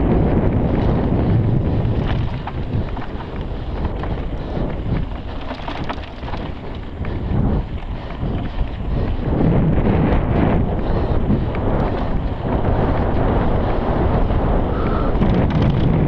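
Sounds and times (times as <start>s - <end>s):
bike tyres crunching on dirt: 0.0s - 16.0s
gravel and bike rattles: 0.0s - 16.0s
wind buffeting the microphone: 0.0s - 16.0s.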